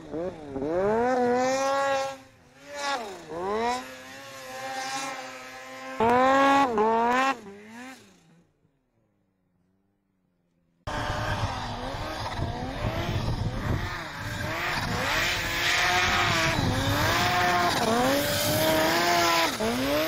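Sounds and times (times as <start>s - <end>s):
snowmobile engine revving: 0.0s - 8.6s, 10.9s - 20.0s.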